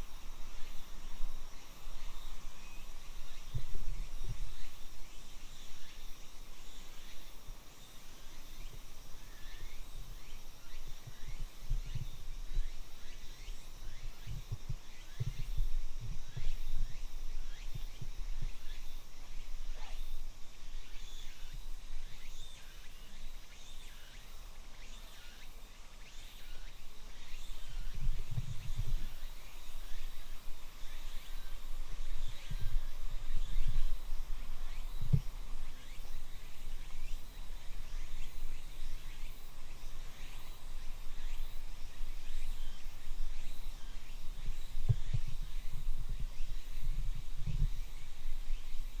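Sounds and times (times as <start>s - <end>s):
faint insect buzz: 0.0s - 49.0s.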